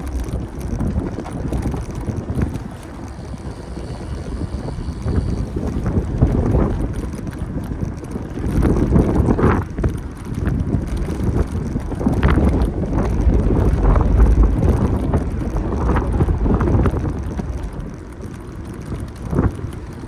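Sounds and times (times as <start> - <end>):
bicycle rattling and knocking: 0.0 - 20.0
wind buffeting microphone: 0.0 - 20.0.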